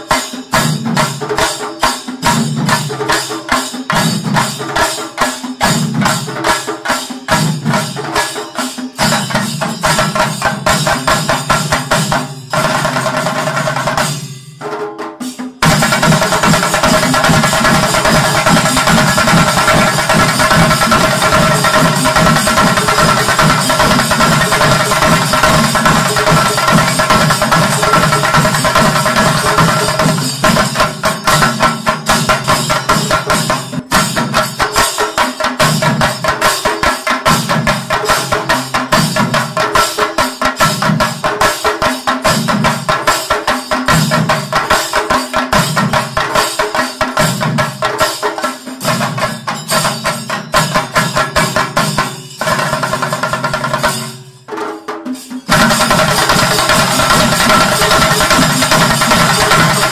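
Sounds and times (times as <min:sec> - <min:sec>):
drum ensemble playing fast rhythms: 0:00.0 - 0:59.9.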